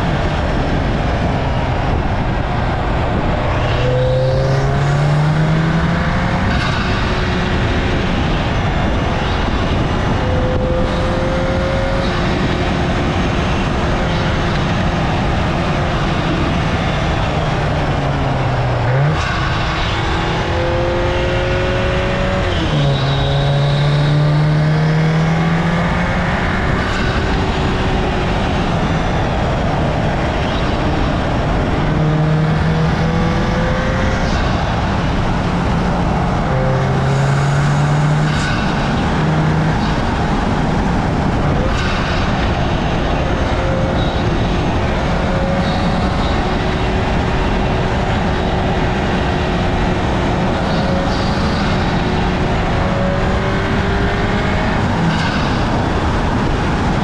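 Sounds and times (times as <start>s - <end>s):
car engine accelerating: 0.0s - 57.0s
tyre and wind noise: 0.0s - 57.0s.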